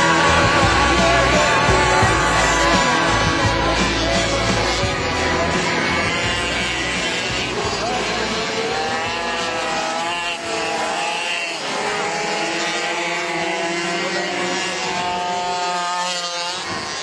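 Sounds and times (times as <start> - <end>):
minibike engines buzzing: 0.0 - 17.0.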